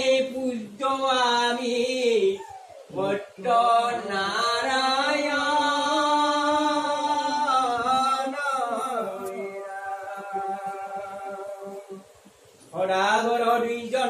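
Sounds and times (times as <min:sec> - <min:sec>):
person chanting a mantra: 0:00.0 - 0:12.1.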